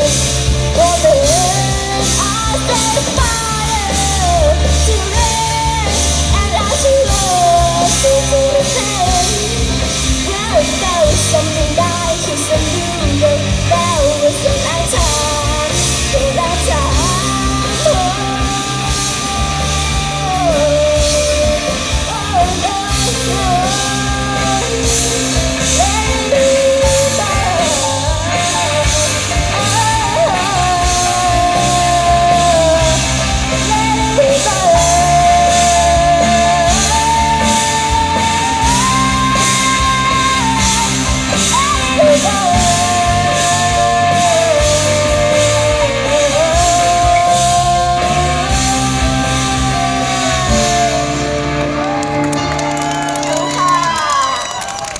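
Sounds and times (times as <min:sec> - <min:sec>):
person singing: 0:00.0 - 0:54.6
bass guitar: 0:00.0 - 0:54.9
drums: 0:00.0 - 0:54.9
electric guitar: 0:00.0 - 0:54.9.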